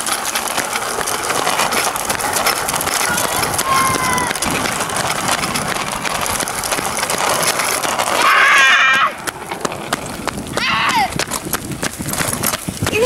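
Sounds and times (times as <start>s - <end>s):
bikes rattling over asphalt: 0.0s - 13.0s.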